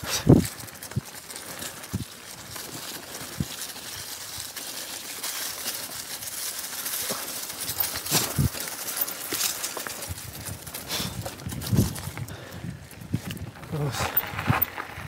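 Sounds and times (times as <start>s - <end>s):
bike jolting over bumps: 0.0s - 15.0s
bike tyres rolling through leaves: 0.0s - 15.0s.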